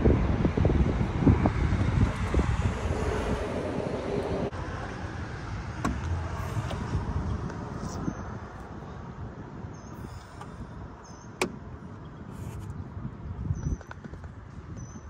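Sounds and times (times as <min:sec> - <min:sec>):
car rumble: 0:00.0 - 0:14.9
wind noise on microphone: 0:00.0 - 0:15.0.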